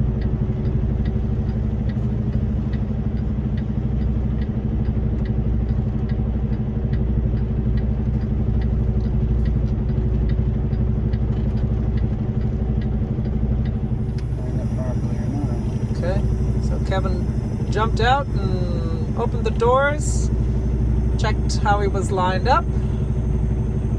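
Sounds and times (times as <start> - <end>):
truck diesel engine idling: 0.0 - 23.9
faint regular ticking: 0.1 - 23.7.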